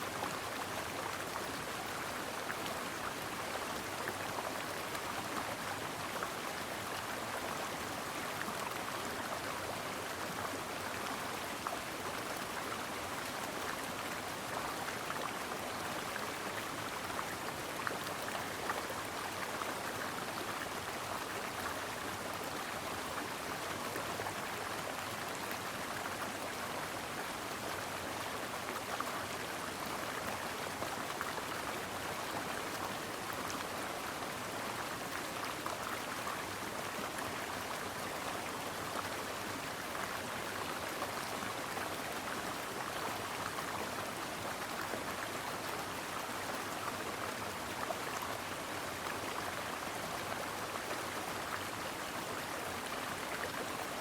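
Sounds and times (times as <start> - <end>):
stream water running over rocks: 0.0 - 54.0.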